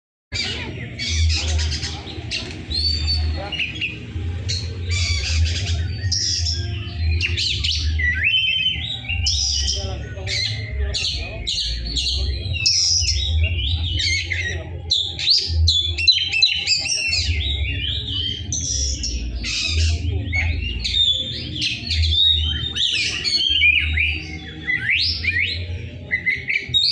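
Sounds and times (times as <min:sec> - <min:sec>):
bird singing chirps and whistles: 0:00.3 - 0:26.9.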